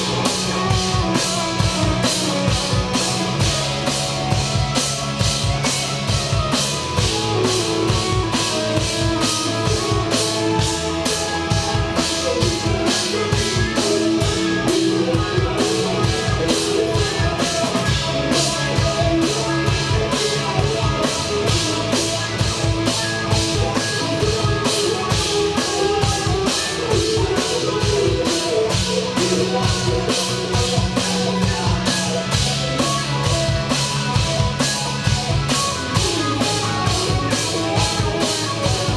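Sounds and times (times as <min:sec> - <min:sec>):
drum kit beat: 0:00.0 - 0:38.9
live rock band playing: 0:00.0 - 0:38.9.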